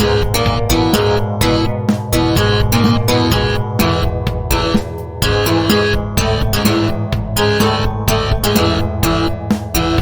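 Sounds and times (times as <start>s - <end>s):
guitar-driven punk rock music: 0.0s - 10.0s.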